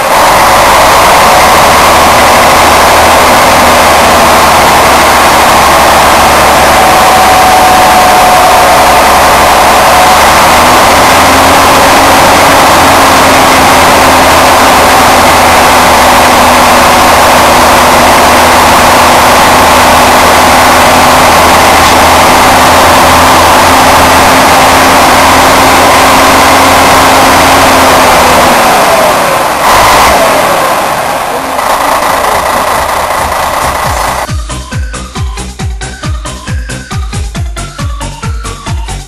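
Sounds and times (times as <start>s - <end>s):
diesel bus engine accelerating: 0.0s - 39.0s.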